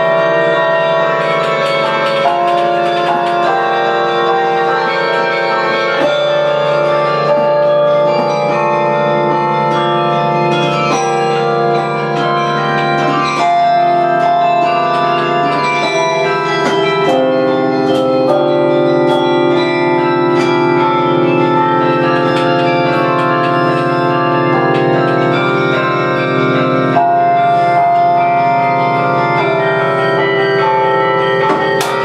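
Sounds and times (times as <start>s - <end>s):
carillon bells ringing: 0.0s - 32.0s.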